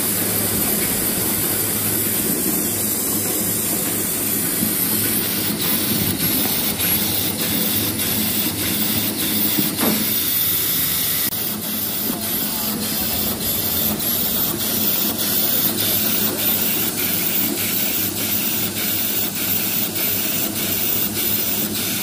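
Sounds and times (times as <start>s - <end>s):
wrapping machine whir and hiss: 0.0s - 22.0s.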